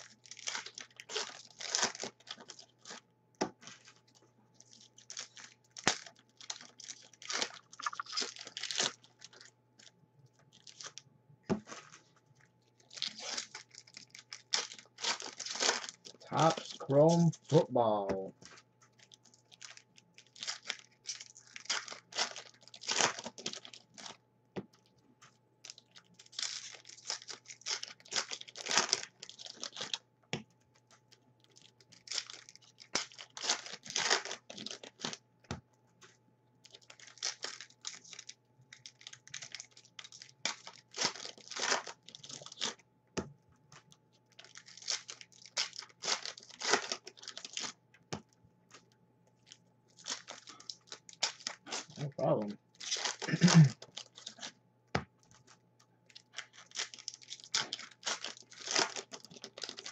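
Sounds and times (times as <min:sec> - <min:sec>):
card pack wrappers tearing: 0:00.0 - 0:03.0, 0:03.6 - 0:09.9, 0:10.5 - 0:11.0, 0:12.8 - 0:24.2, 0:25.6 - 0:30.0, 0:31.5 - 0:35.2, 0:36.6 - 0:42.8, 0:43.8 - 0:47.8, 0:49.4 - 0:54.6, 0:55.4 - 0:59.9.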